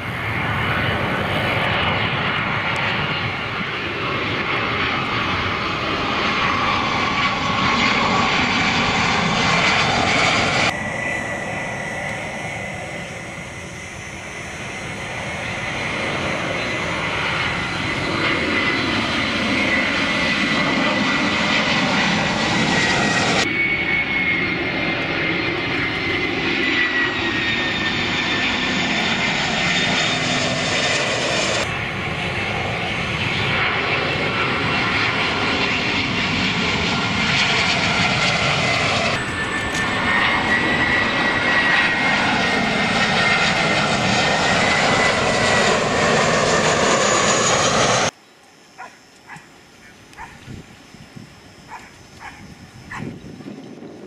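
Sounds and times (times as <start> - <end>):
jet airliners flying overhead: 0.0 - 54.0.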